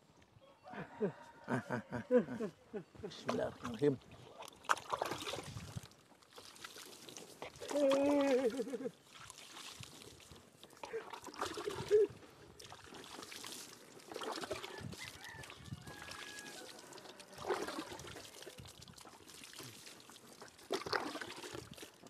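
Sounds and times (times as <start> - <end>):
water pouring and splashing: 3.1 - 22.0.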